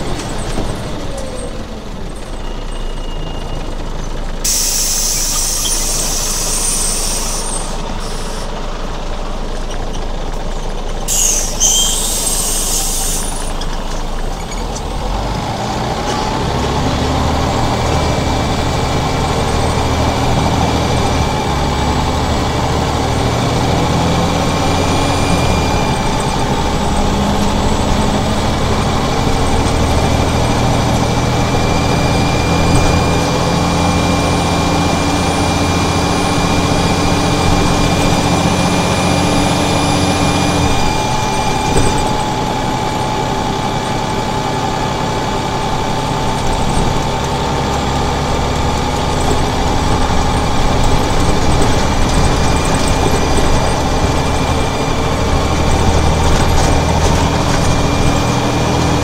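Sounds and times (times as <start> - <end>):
bus diesel engine running: 0.0 - 59.0
high-pitched engine whine: 0.0 - 59.0.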